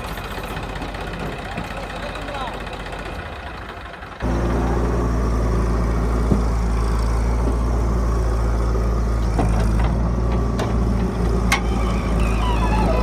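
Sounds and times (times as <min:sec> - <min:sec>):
diesel machinery engine running: 0:00.0 - 0:13.0.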